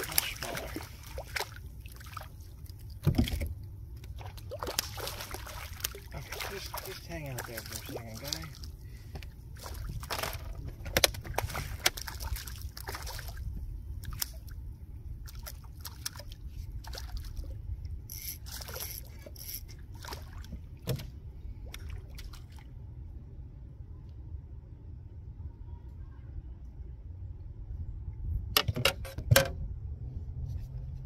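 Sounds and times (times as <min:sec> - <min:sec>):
steady low rumble: 0:00.0 - 0:28.6, 0:29.3 - 0:31.0.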